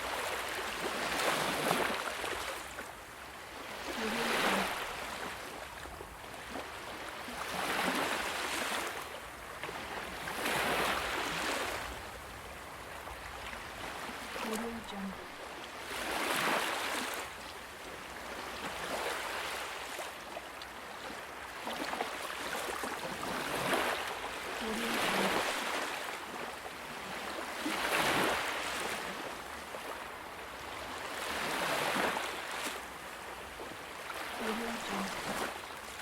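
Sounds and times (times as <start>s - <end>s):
ocean waves breaking: 0.0s - 20.2s, 21.0s - 36.0s.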